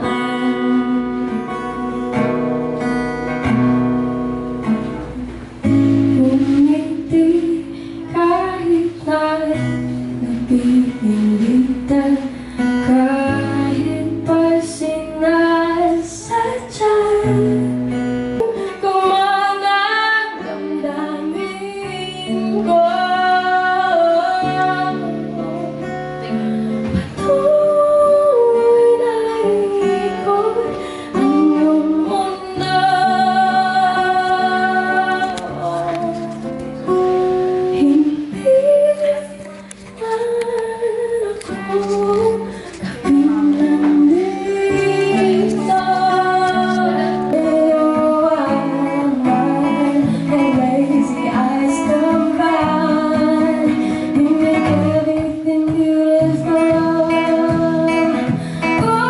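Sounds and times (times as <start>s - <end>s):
woman singing: 0.0s - 3.4s, 4.6s - 59.0s
acoustic guitar: 0.0s - 59.0s.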